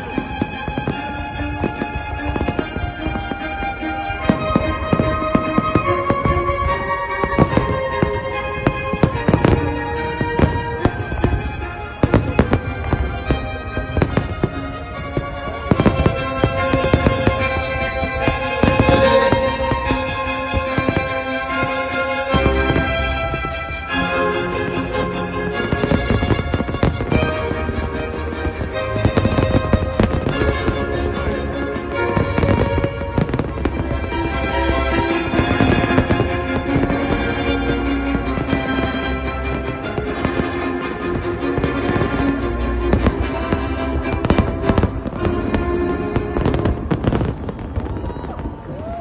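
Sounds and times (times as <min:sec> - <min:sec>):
fireworks bursting: 0:00.0 - 0:49.0
music playing: 0:00.0 - 0:49.0.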